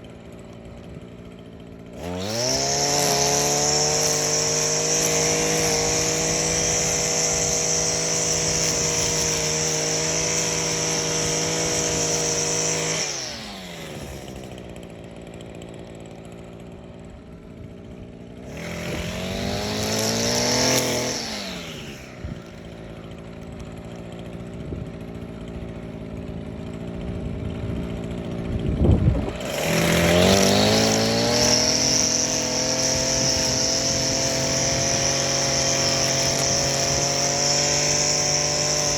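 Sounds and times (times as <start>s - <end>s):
string trimmer engine running: 0.0s - 38.9s.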